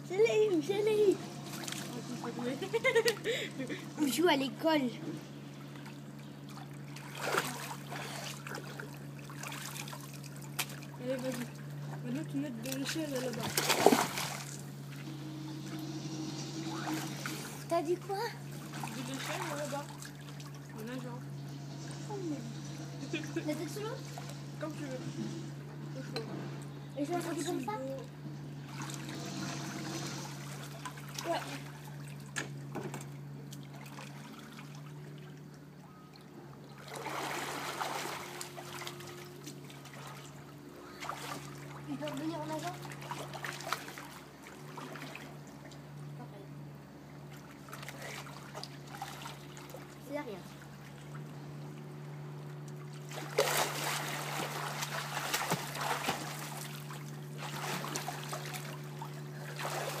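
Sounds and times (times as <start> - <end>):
pool water splashing: 0.0 - 25.0, 27.0 - 60.0
steady low hum: 0.0 - 60.0.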